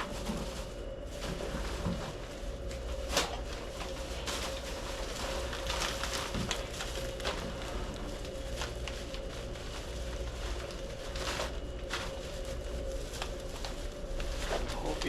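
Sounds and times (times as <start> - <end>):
bin and bag rustling: 0.0 - 15.0
low machinery hum: 0.0 - 15.0.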